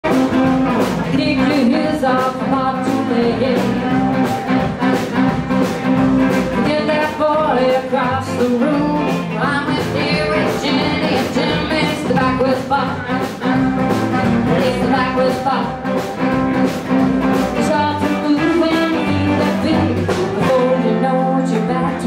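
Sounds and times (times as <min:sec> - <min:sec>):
electric and acoustic guitars: 0:00.0 - 0:22.0
steady drum beat: 0:00.0 - 0:22.0
person singing: 0:00.1 - 0:16.7, 0:17.5 - 0:22.0.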